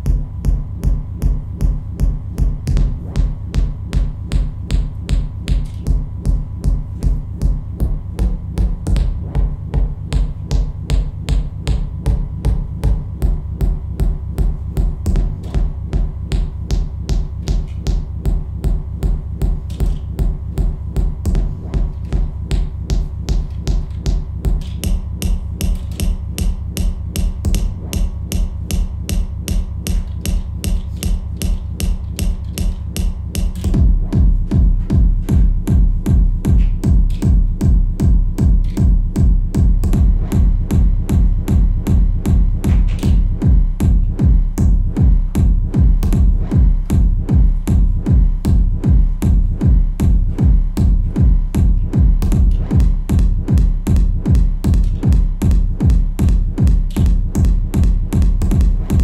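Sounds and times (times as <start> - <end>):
electronic techno beat: 0.0 - 59.0
heavy bass drum: 0.0 - 59.0.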